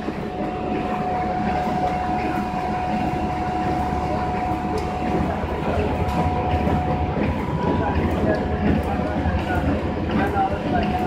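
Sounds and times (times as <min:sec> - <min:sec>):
machine rumbling and rattling: 0:00.0 - 0:11.0
thin steady machine whine: 0:00.0 - 0:11.0.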